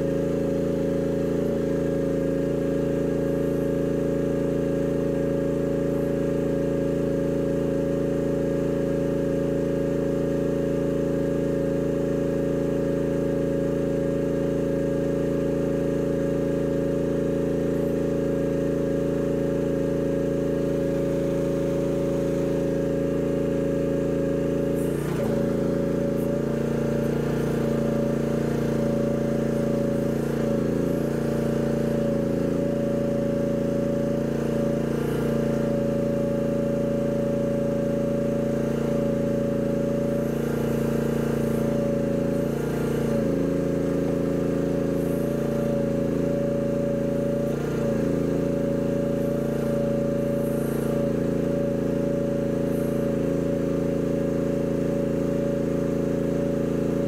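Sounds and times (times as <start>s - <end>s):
excavator engine running: 0.0s - 9.4s, 11.6s - 54.9s.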